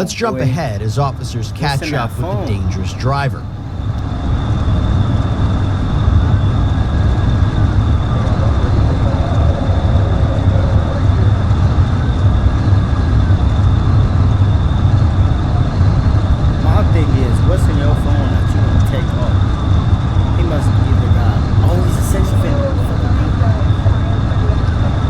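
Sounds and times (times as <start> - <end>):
loud low vehicle rumble: 0.6 - 25.0.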